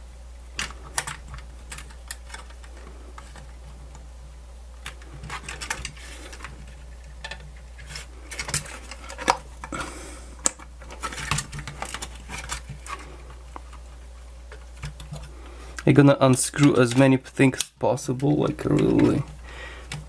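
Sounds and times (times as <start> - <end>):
steady low hum: 0.0 - 20.0
small parts clicking and scraping: 0.6 - 3.8, 4.8 - 20.0.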